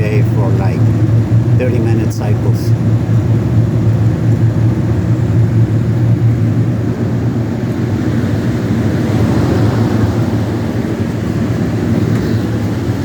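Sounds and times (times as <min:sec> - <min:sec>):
cooler fans humming: 0:00.0 - 0:13.0
rushing air: 0:00.0 - 0:13.0.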